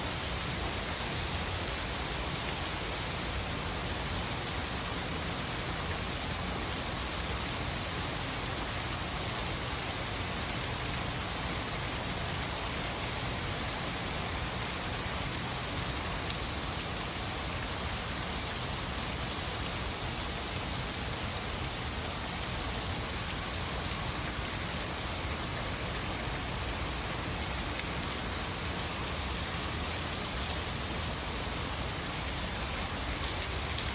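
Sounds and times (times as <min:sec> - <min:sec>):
rain pattering on surfaces: 0:00.0 - 0:33.9.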